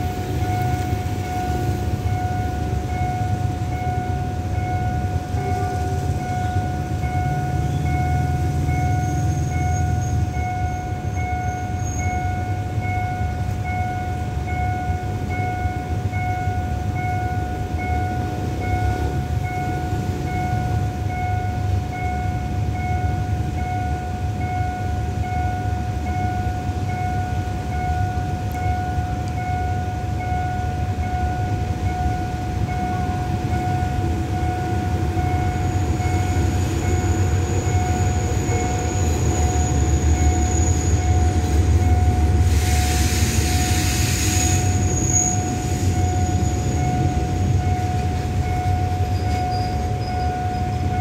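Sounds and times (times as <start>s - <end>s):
level crossing warning tone: 0.0s - 51.0s.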